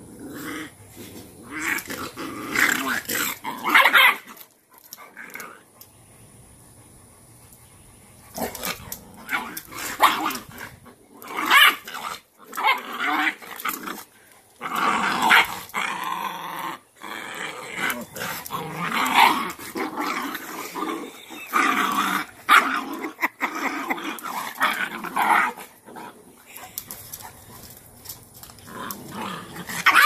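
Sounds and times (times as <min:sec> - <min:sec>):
dogs growling and yelping: 0:00.0 - 0:05.9, 0:08.2 - 0:27.8, 0:28.5 - 0:30.0.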